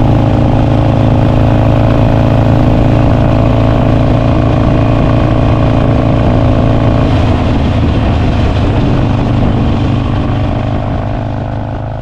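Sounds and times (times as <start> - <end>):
motorcycle engine running loudly: 0.0 - 12.0.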